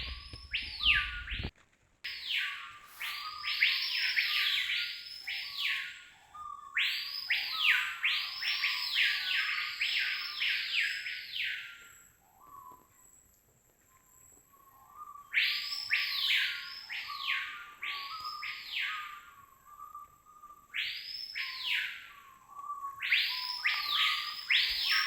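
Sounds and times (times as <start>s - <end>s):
bird calling with harsh notes: 0.0s - 1.5s, 2.1s - 12.9s, 14.0s - 25.0s.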